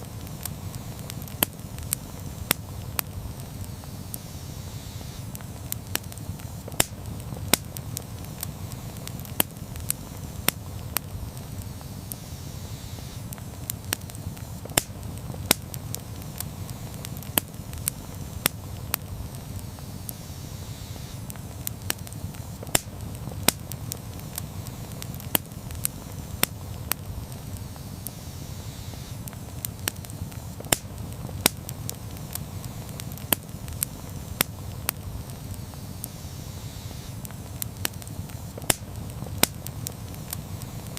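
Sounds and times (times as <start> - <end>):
fire crackling and popping: 0.0 - 40.9
flames rushing: 0.0 - 40.9.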